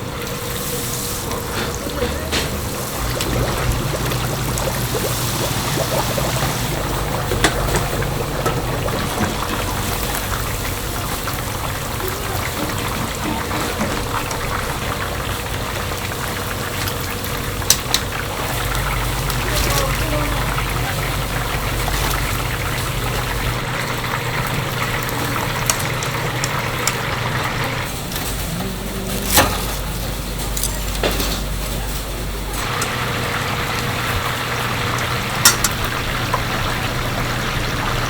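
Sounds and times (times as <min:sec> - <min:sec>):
low steady hum: 0:00.0 - 0:32.6
chicken deep-frying in oil: 0:00.0 - 0:38.0.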